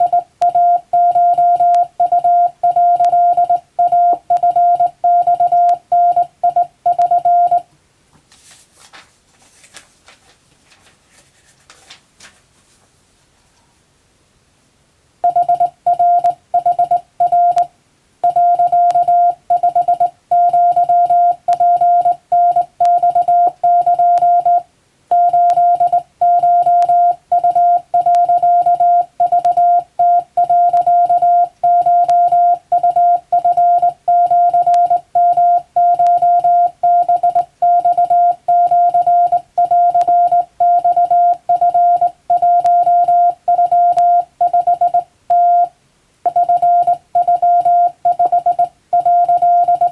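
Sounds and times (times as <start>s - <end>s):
morse code tone: 0.0s - 7.7s, 15.2s - 45.7s, 46.3s - 49.9s.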